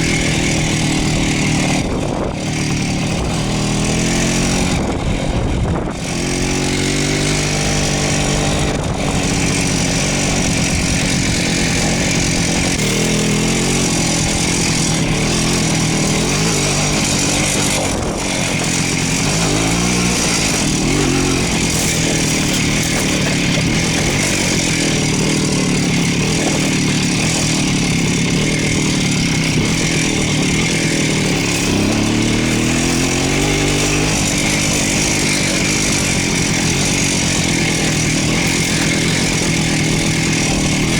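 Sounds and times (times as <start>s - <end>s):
steady rushing noise: 0.0s - 40.9s
two-stroke motorcycle engine revving: 0.0s - 40.9s.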